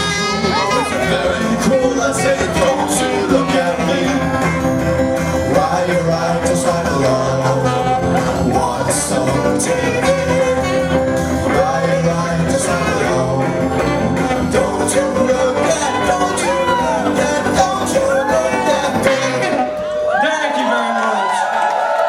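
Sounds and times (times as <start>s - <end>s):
person singing: 0.0s - 20.4s
guitar-led band music: 0.0s - 20.7s.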